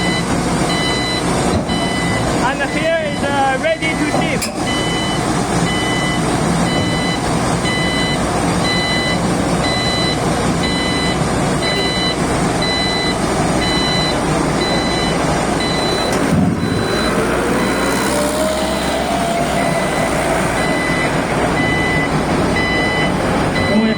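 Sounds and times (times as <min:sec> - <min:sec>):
excavator engine running: 0:00.0 - 0:23.9
warning alarm beeps: 0:00.0 - 0:23.9.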